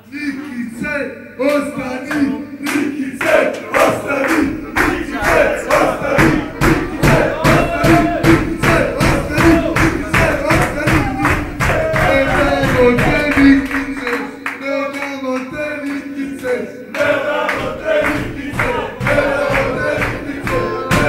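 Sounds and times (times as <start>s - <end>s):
rhythmic hand-clapping: 1.4s - 21.0s
men singing in unison: 1.5s - 21.0s.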